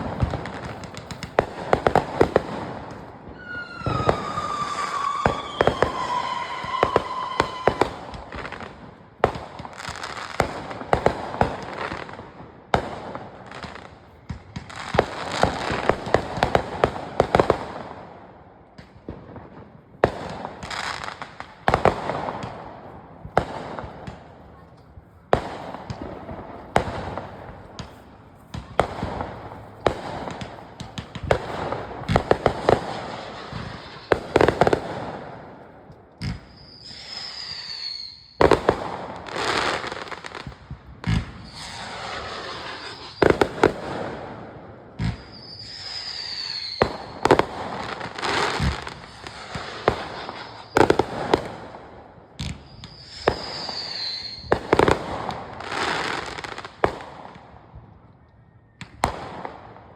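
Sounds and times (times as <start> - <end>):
fireworks falling whistles: 0.0 - 17.9, 18.7 - 59.8
fireworks bangs and crackling: 0.0 - 59.9.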